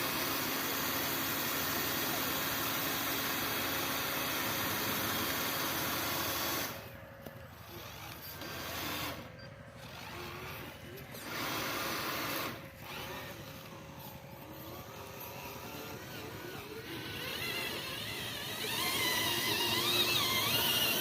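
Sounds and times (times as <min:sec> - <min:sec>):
small electric motors whirring: 0:00.0 - 0:21.0.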